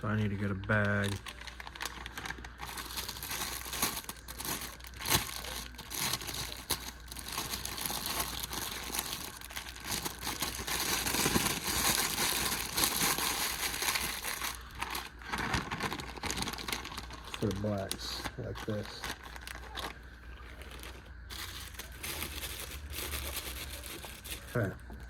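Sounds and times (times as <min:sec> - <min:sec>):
bag crinkling and rustling: 0:00.1 - 0:25.0.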